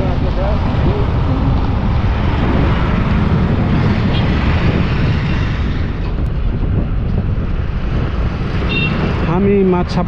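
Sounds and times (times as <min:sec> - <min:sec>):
vehicle rumble in motion: 0:00.0 - 0:10.0.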